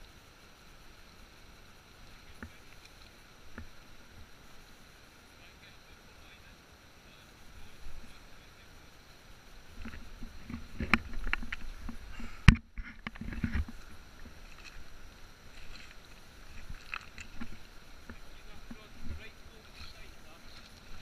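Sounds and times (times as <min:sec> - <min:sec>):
river water splashing over stones: 0:00.0 - 0:12.2, 0:13.2 - 0:21.0.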